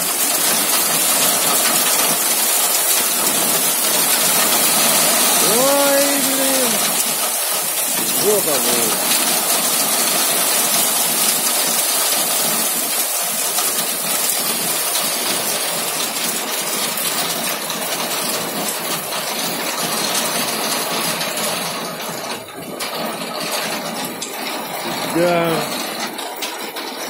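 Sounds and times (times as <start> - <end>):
hail and rain on car body: 0.0 - 27.0.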